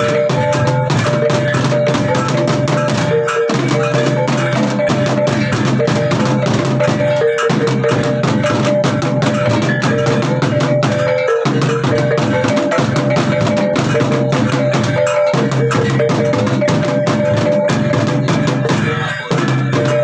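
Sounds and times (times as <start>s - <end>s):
fast drum strikes: 0.0s - 20.0s
sustained ringing tones: 0.0s - 20.0s.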